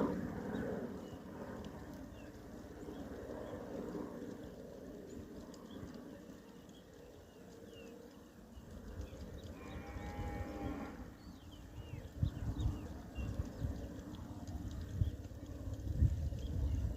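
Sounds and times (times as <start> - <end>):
faint low rumble: 0.0 - 16.9.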